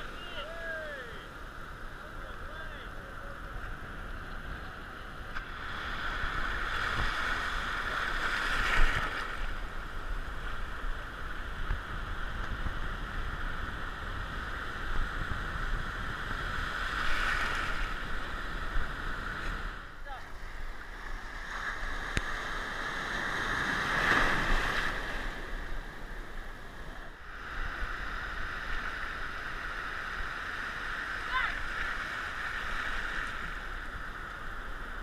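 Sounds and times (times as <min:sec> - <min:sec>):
surf washing around camera: 0:00.0 - 0:35.0.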